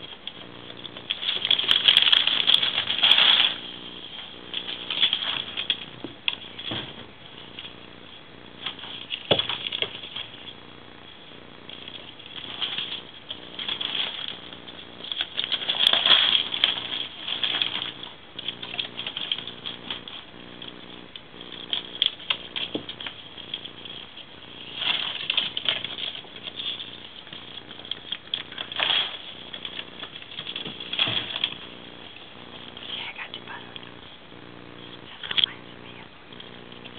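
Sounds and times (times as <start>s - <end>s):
foil duct crinkling and rattling: 0.0s - 36.9s.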